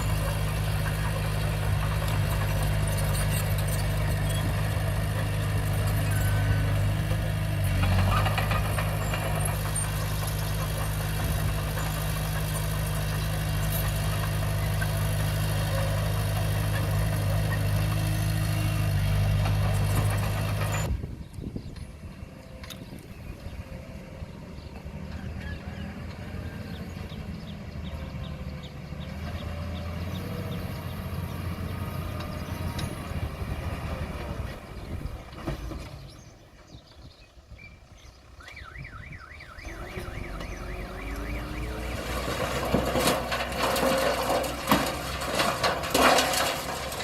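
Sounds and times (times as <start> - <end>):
bulldozer diesel engine droning: 0.0 - 47.0.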